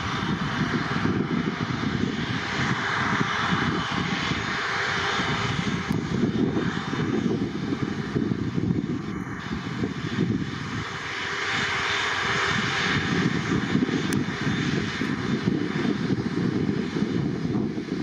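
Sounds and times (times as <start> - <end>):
aircraft engines rumbling: 0.0 - 18.0.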